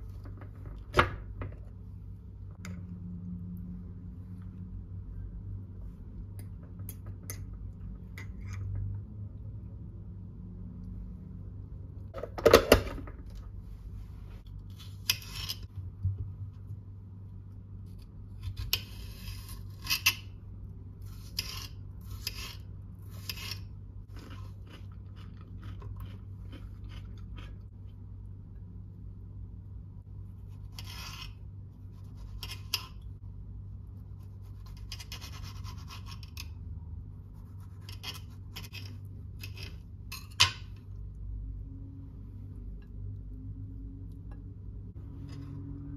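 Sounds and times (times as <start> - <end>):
low steady hum: 0.0 - 45.9.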